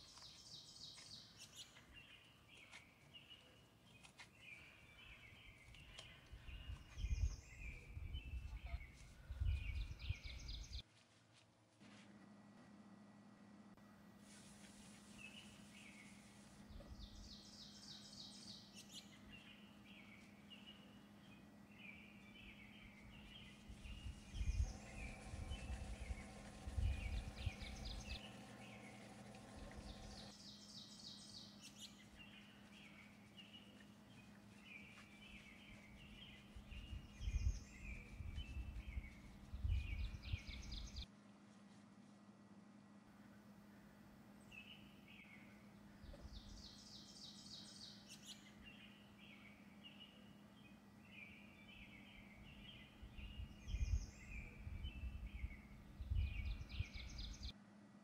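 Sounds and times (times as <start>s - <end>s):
small birds chirping: 0.0s - 10.8s, 14.6s - 41.1s, 44.4s - 57.6s
faint low hum: 0.0s - 58.0s.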